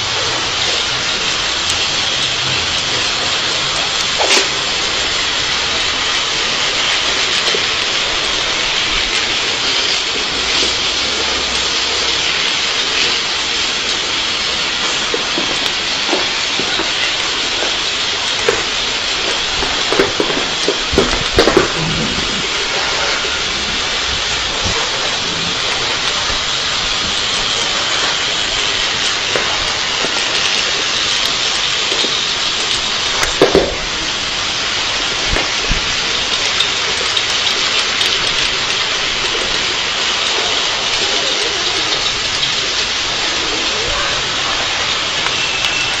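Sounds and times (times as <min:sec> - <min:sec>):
toy train rattling on track: 0:00.0 - 0:46.0.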